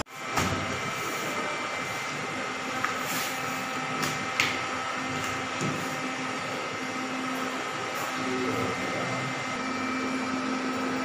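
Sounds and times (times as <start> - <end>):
electrical hum and fan whir: 0.0 - 11.0.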